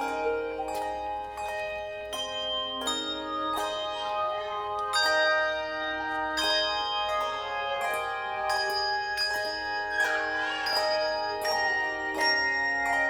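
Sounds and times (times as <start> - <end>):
tuned bells playing chords: 0.0 - 13.0.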